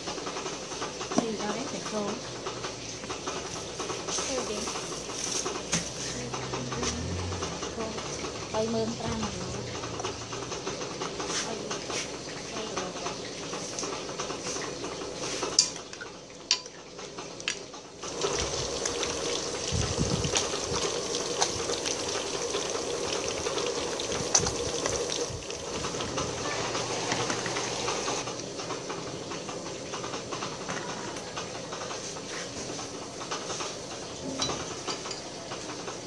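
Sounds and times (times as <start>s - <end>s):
fish frying in hot oil: 0.0s - 31.8s, 32.8s - 36.0s.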